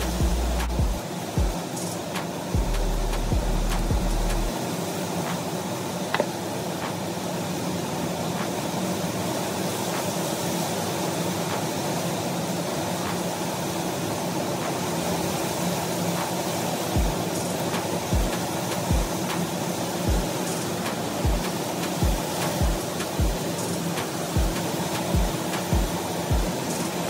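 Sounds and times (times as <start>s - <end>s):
whirring air noise: 0.0s - 27.0s.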